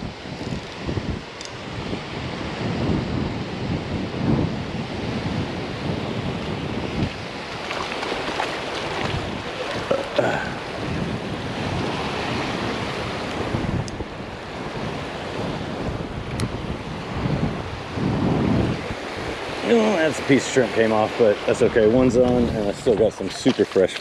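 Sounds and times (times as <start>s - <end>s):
ocean surf washing onto beach: 0.0s - 24.0s
wind buffeting microphone: 0.0s - 24.0s.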